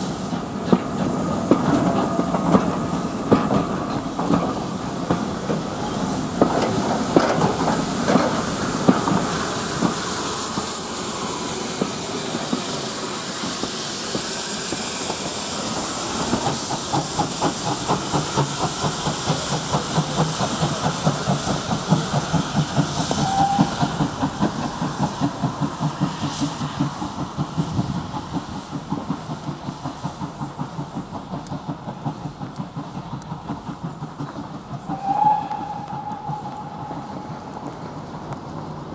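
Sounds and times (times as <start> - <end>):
steam engine exhaust beats: 0.0 - 38.9
steam hiss: 0.0 - 38.9
train wheels clacking on rail joints: 0.0 - 38.9.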